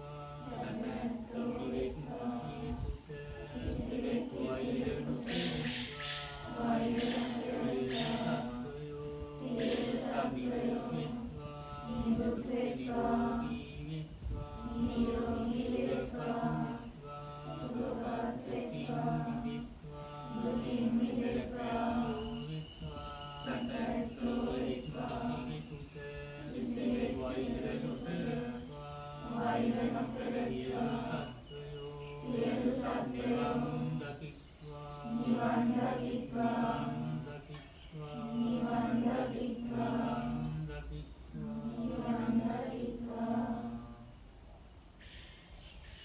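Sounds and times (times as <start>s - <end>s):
group chanting: 0.0s - 44.1s.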